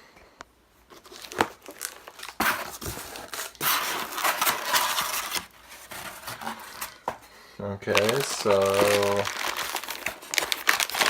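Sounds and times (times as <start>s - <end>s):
packing material crinkling: 0.9s - 7.2s, 7.9s - 11.0s.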